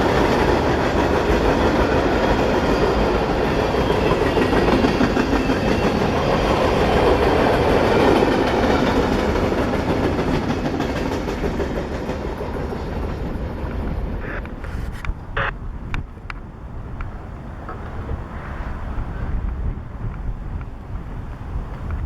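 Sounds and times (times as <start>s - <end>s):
train wheels clacking on rails: 0.0s - 22.0s.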